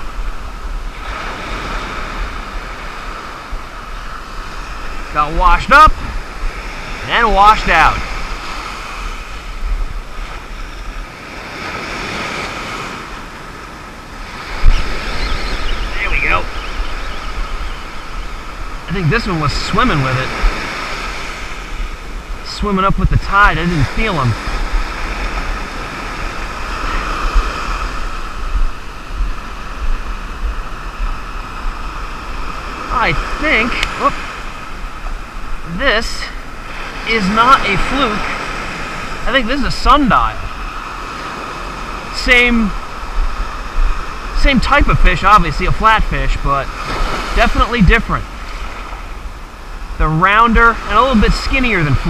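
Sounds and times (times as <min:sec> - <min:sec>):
wind buffeting microphone: 0:00.0 - 0:39.2, 0:39.8 - 0:45.8
surf breaking on beach: 0:00.0 - 0:52.0.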